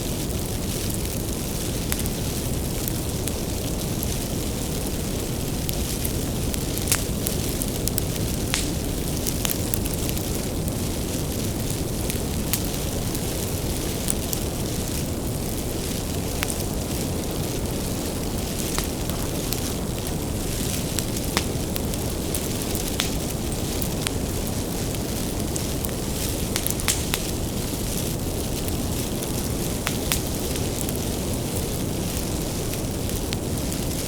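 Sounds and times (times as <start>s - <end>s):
fire flames rumbling: 0.0s - 34.0s
wood crackling and popping: 0.0s - 34.0s.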